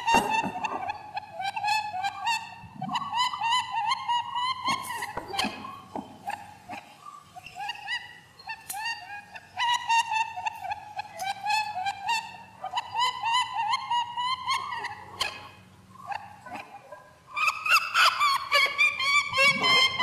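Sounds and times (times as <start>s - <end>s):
squeaky animal calls: 0.0s - 20.0s.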